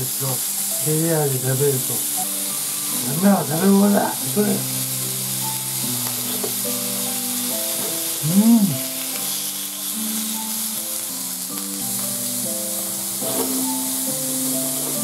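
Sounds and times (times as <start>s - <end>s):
meat sizzling on grill: 0.0s - 15.0s
soft background music: 0.0s - 15.0s.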